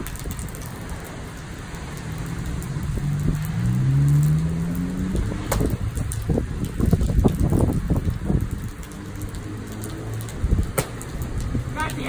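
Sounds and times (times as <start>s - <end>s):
low vehicle engine hum: 0.0s - 12.0s
rain on wet pavement: 0.0s - 12.0s.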